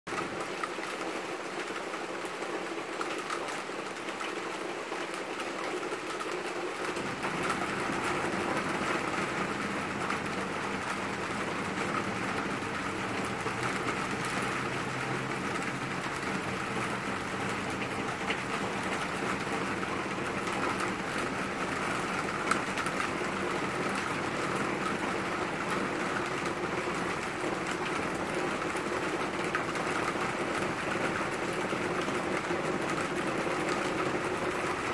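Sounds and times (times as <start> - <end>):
rain on leafy trees: 0.1 - 34.9.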